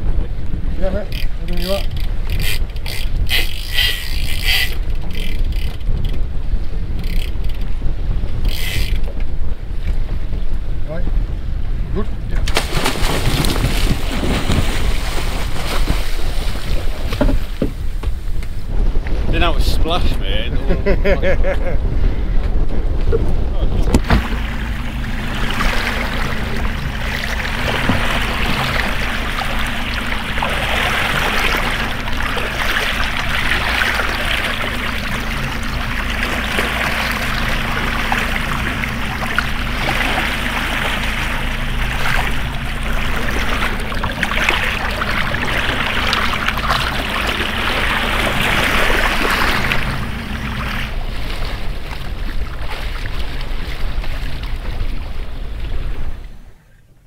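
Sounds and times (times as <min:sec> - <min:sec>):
boat engine running: 0:00.0 - 0:57.0
water rushing along a hull: 0:00.0 - 0:57.0.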